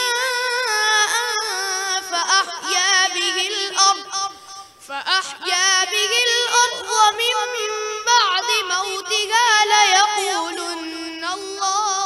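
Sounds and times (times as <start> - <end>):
boy reciting melodically: 0.0 - 12.0.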